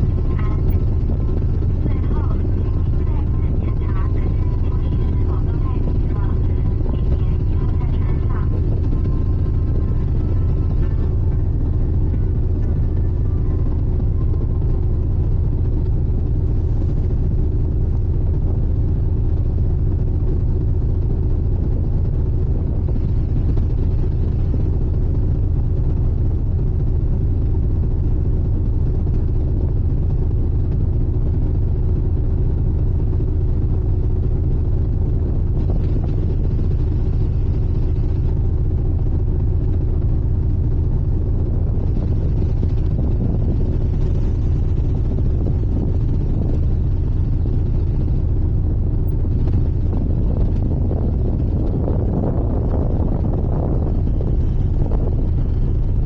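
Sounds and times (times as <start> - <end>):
ship engine low rumble: 0.0 - 56.0
steady engine hum: 0.0 - 56.0.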